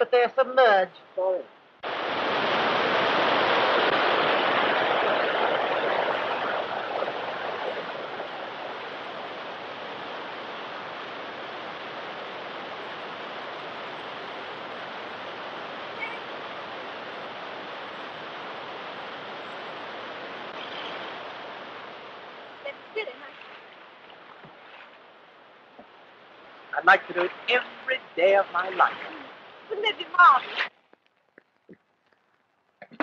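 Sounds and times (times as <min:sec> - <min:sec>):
water rushing over a weir: 0:01.8 - 0:31.6.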